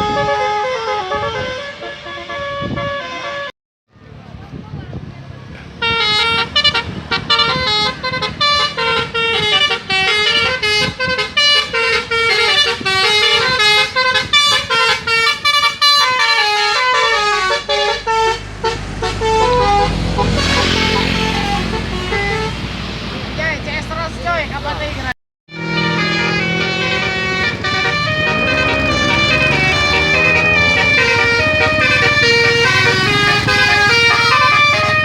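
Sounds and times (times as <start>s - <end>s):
multi-tone bus horn melody: 0.0s - 3.5s, 5.7s - 22.8s, 25.5s - 35.0s
bus engine rumble: 3.9s - 35.0s.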